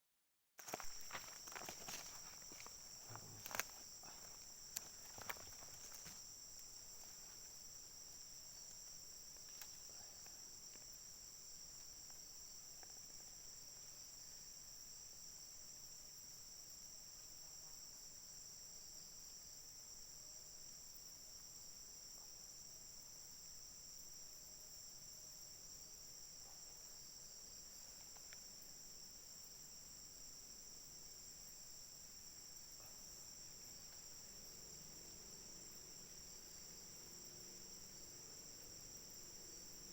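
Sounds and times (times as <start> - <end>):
insects trilling: 0.6 - 39.9.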